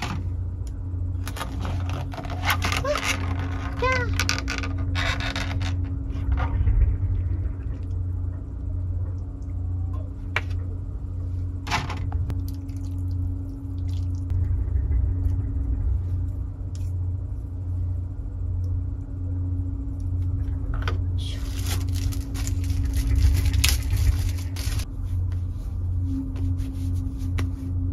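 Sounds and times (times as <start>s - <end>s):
constant tone: 0.0s - 27.9s
low droning hum: 0.0s - 27.9s.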